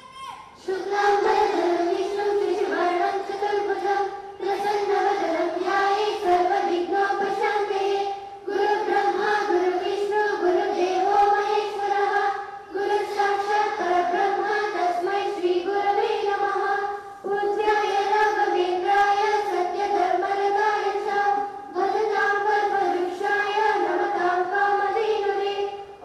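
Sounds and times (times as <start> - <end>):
children singing in unison: 0.0 - 26.0.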